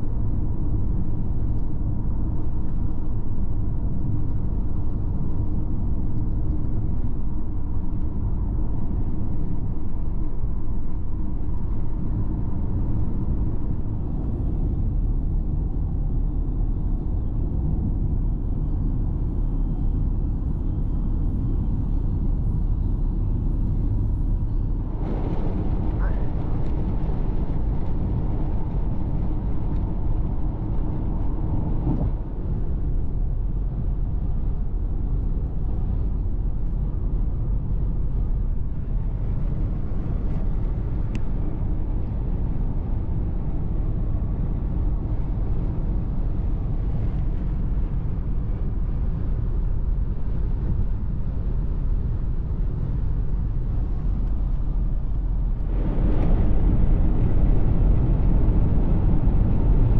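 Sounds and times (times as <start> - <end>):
moving car rumble: 0.0 - 59.9.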